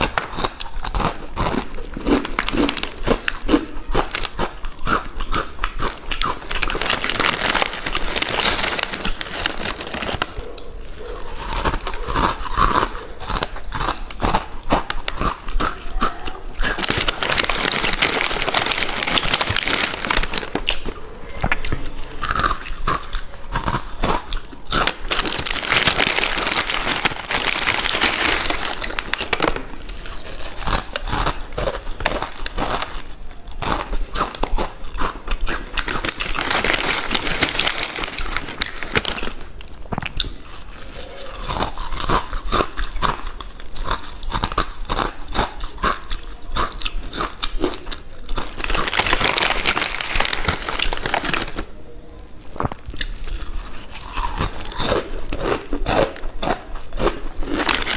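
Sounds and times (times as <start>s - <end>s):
crunching and chewing potato chips: 0.0s - 51.7s, 52.4s - 57.9s.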